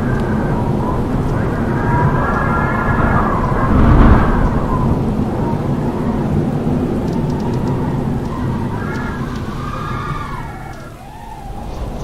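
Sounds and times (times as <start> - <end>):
howling wind: 0.0 - 12.0.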